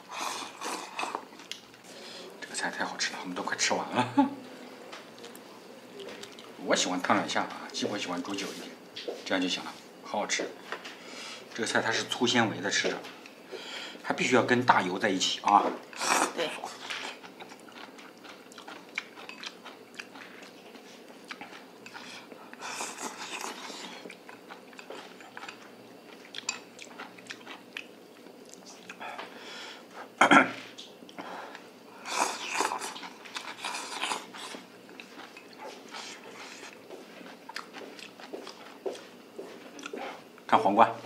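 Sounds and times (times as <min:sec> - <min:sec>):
people chewing food: 0:00.0 - 0:09.2, 0:15.3 - 0:40.5.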